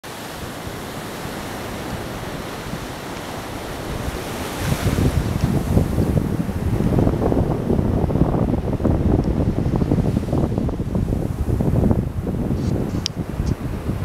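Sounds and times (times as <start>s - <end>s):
small waves on beach: 0.0s - 14.0s
wind buffeting microphone: 0.1s - 14.0s.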